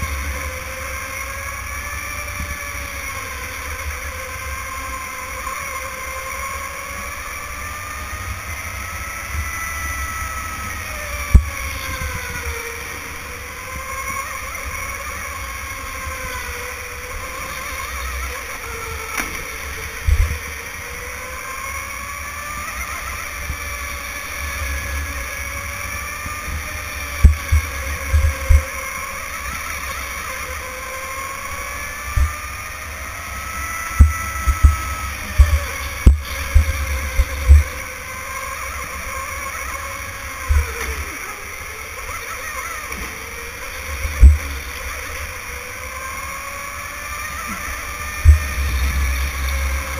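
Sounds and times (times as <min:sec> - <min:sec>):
electric go-kart motor whining: 0:00.0 - 0:49.9.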